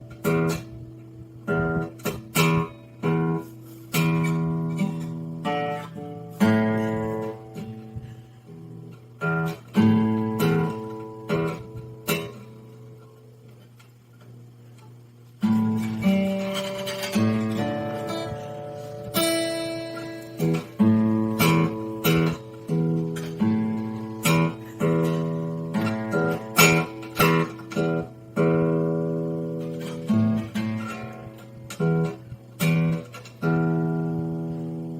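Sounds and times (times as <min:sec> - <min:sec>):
acoustic guitar strummed: 0:00.0 - 0:34.9.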